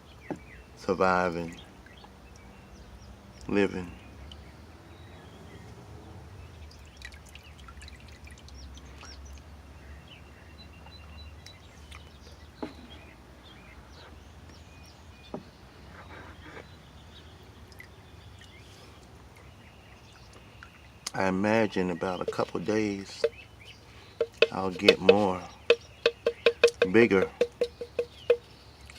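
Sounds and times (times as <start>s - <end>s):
birds chirping: 0.0s - 28.9s.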